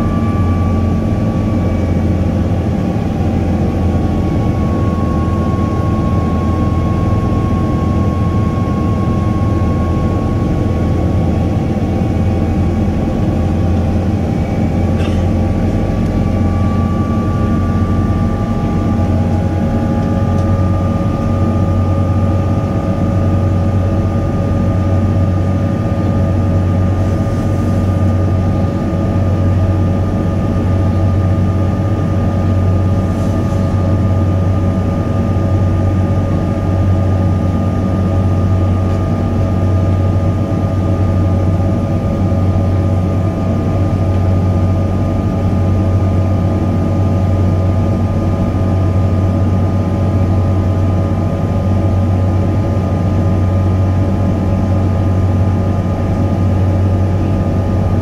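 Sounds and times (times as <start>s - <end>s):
deep hum: 0.0s - 58.0s
loud drone of jet engines: 0.0s - 58.0s
whining engine tones: 0.0s - 58.0s.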